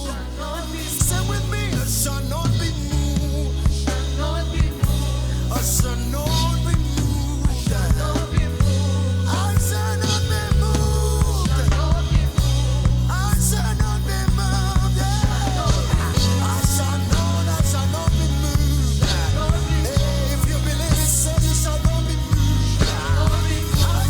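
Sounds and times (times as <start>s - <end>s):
worship band music: 0.0s - 24.0s.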